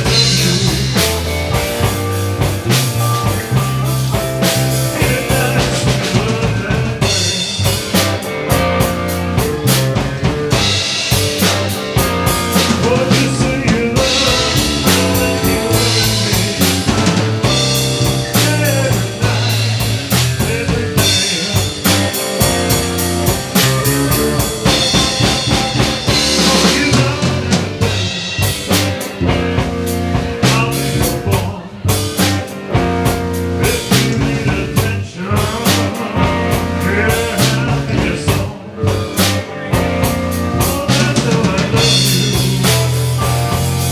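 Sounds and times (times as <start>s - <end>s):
live blues band playing: 0.0s - 43.9s.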